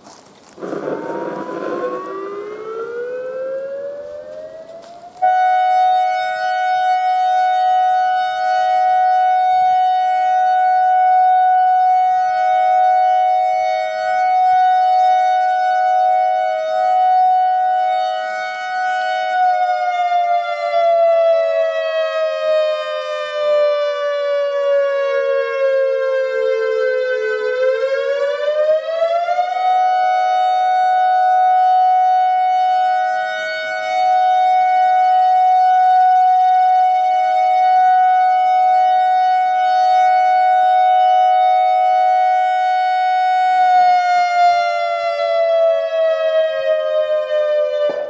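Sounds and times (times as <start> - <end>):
outdoor warning siren: 0.0 - 48.0.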